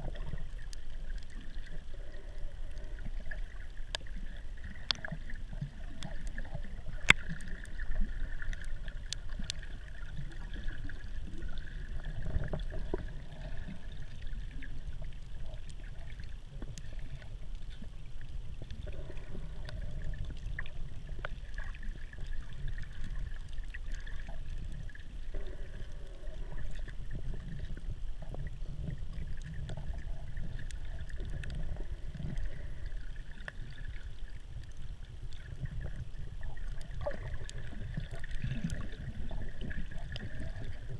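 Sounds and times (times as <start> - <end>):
faint clicks: 0.0 - 40.9
underwater rumble of moving water: 0.0 - 40.9.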